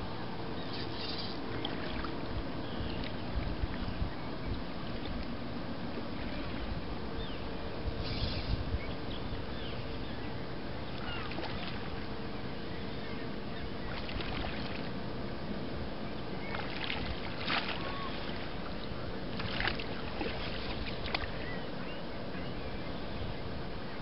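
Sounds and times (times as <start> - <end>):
boat motor humming: 0.0 - 8.0, 8.9 - 24.0.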